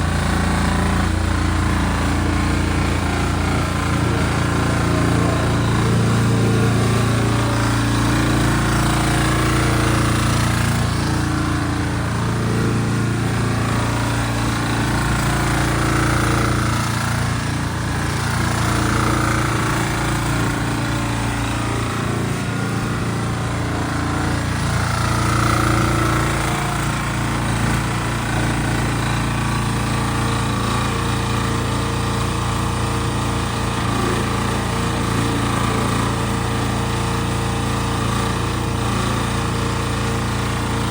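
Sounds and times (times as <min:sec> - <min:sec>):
mini excavator engine running: 0:00.0 - 0:40.9.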